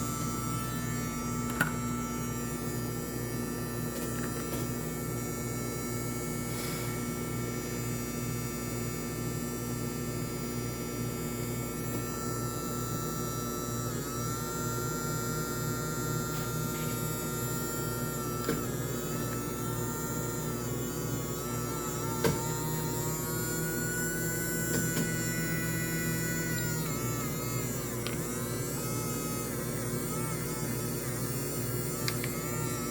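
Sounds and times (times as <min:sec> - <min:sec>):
washing machine motor humming: 0:00.0 - 0:32.9.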